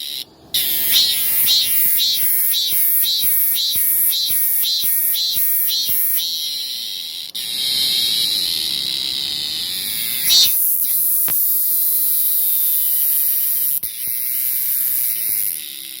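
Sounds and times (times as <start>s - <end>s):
cicada buzzing: 0.0s - 16.0s
steady low hum: 0.3s - 13.7s.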